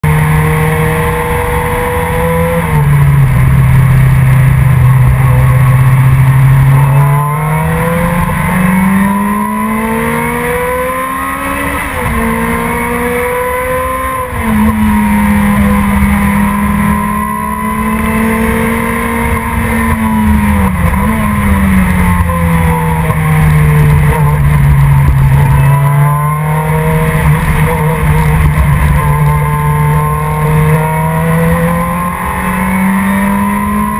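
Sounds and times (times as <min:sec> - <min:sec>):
sports car engine at racing speed: 0:00.0 - 0:33.9.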